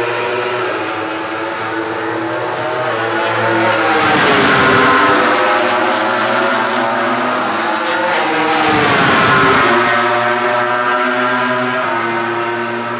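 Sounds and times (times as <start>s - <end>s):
race motorcycles passing by: 0.0s - 12.9s.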